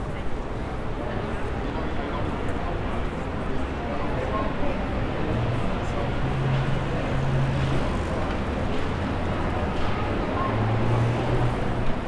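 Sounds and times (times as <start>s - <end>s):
indistinct voices of passers-by: 0.0s - 12.0s.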